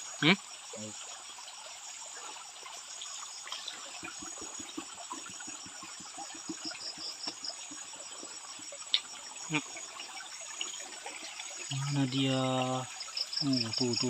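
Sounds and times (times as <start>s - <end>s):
insects chirping: 0.0s - 14.0s
water trickling faintly: 0.0s - 14.0s.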